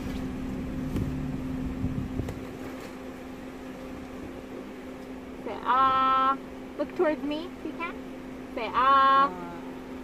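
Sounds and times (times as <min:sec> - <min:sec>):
idling car engine hum: 0:00.0 - 0:10.0.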